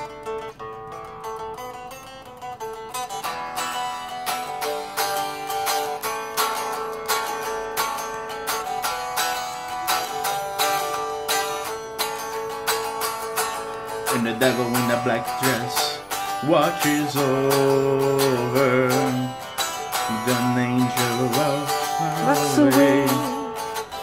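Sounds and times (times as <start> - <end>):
clean electric guitar picking: 0.0 - 24.0.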